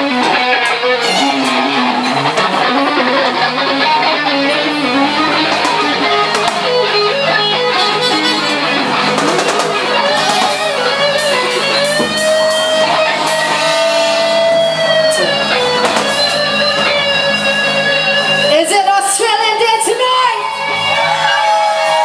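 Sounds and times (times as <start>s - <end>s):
drums: 0.0s - 22.0s
electric guitar: 0.0s - 22.0s.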